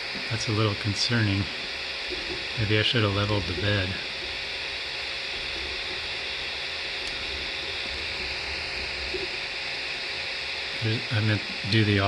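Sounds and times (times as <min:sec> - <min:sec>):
printer fan whirring: 0:00.0 - 0:12.0.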